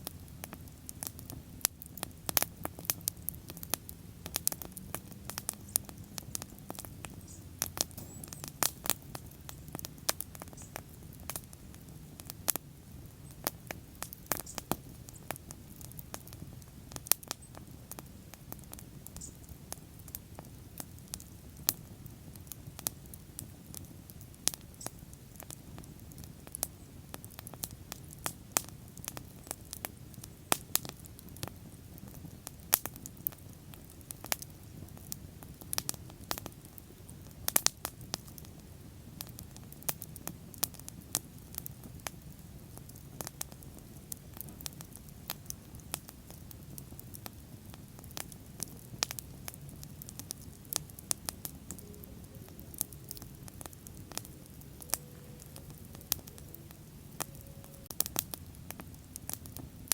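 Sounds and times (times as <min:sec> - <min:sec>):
bonfire crackles and pops: 0:00.0 - 0:59.9
low rush of flames: 0:00.0 - 0:59.9.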